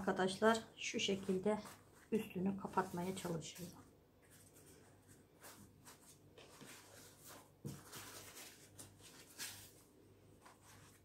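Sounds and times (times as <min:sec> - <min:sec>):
pastry sheets rustling and crinkling: 0:00.0 - 0:11.0.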